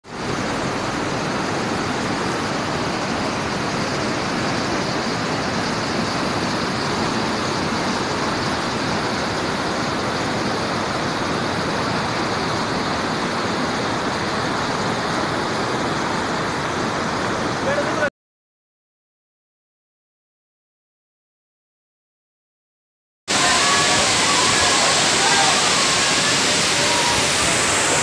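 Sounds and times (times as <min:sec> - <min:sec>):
floodwater rushing over rocks: 0:00.1 - 0:18.0, 0:23.3 - 0:28.0.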